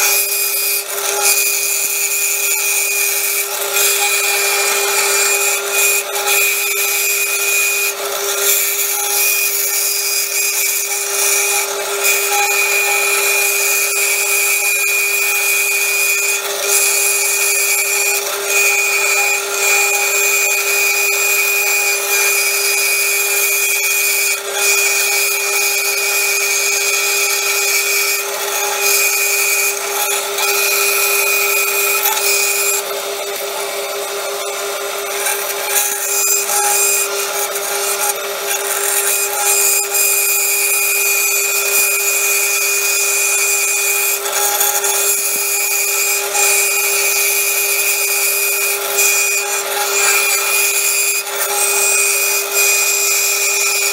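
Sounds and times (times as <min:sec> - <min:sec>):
bandsaw cutting steel: 0:00.0 - 0:53.9.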